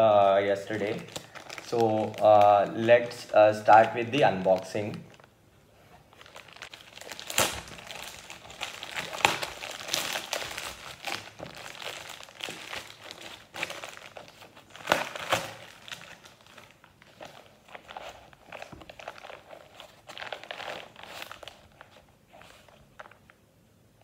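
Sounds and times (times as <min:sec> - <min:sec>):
plastic mailer crinkling: 0:00.0 - 0:05.4, 0:06.0 - 0:23.4.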